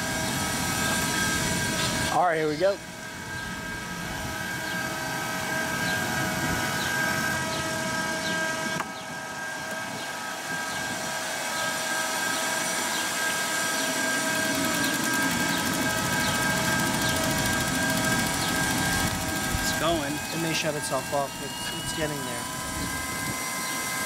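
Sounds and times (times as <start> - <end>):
jet turbine high whine: 0.0 - 24.0.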